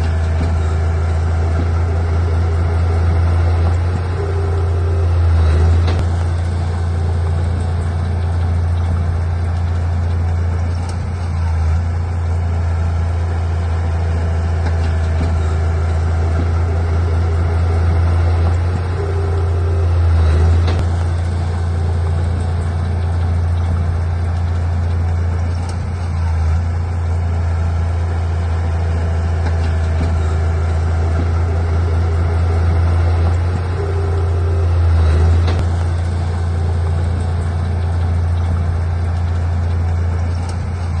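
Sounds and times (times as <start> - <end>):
heavy machinery diesel engine drone: 0.0 - 41.0.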